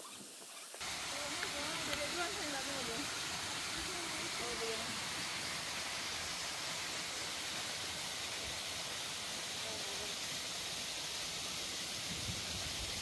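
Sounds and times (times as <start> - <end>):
waterfall rushing hiss: 0.2 - 13.0.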